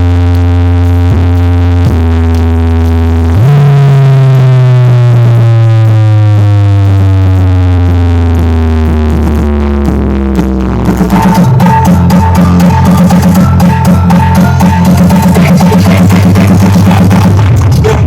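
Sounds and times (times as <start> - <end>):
deep synthesizer bass tone: 0.0 - 18.0.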